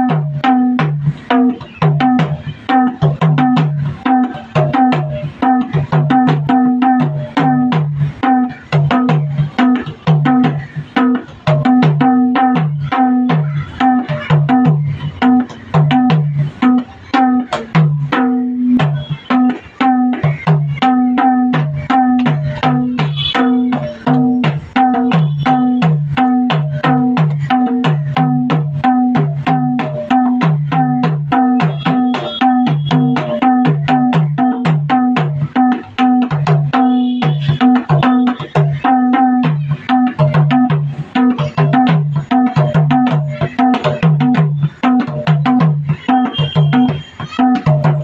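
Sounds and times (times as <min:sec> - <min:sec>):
hand drum fast rhythm: 0:00.0 - 0:48.0.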